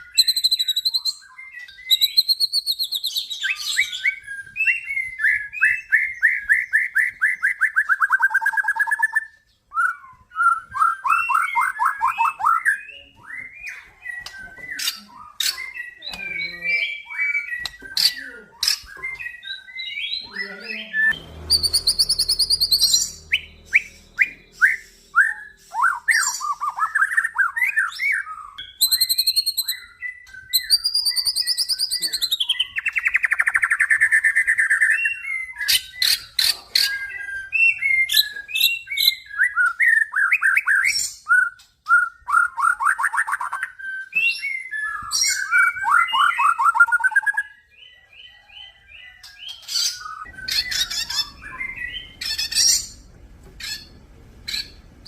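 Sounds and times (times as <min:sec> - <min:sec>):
bird singing whistles and trills: 0:00.0 - 0:53.9.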